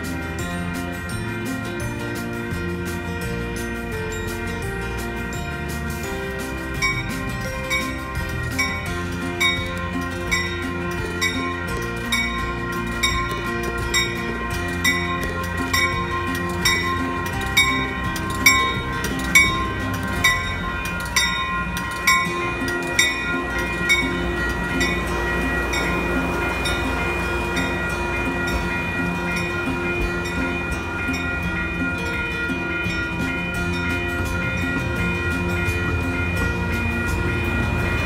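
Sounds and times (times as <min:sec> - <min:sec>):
crossing bell ringing: 0:00.0 - 0:38.0
passenger train rumbling past: 0:00.0 - 0:38.0.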